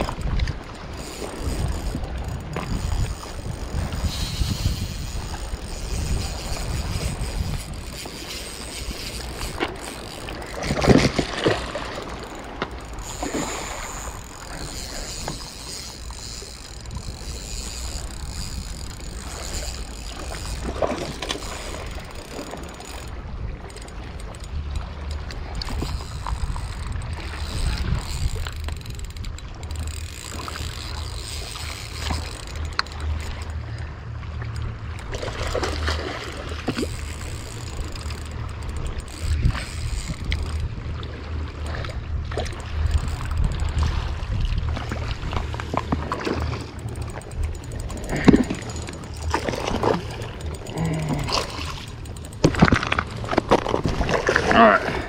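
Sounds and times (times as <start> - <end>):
fishing reel whirring: 0.0 - 54.8
wind buffeting microphone: 0.0 - 55.0.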